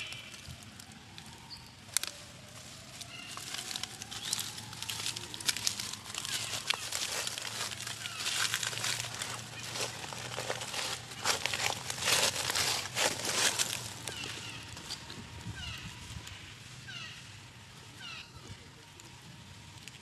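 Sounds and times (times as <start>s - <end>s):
dry leaves crackling underfoot: 0.0s - 20.0s.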